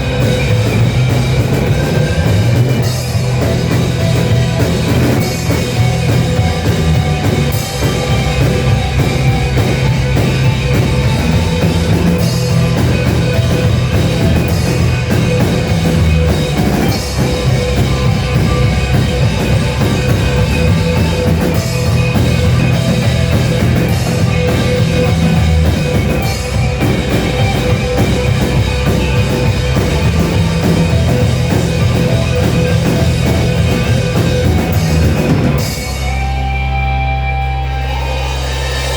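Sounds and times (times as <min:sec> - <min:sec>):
loud rock music: 0:00.0 - 0:38.9.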